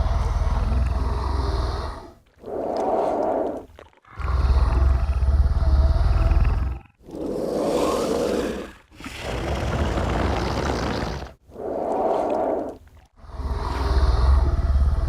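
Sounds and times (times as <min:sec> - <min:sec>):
deep rumbling creature growl: 0:00.0 - 0:15.0.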